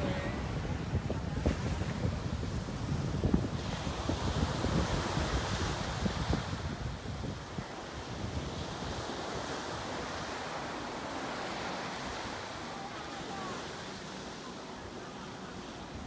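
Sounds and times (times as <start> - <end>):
small waves washing on sand: 0.0 - 16.0
wind rumble on microphone: 0.0 - 16.0.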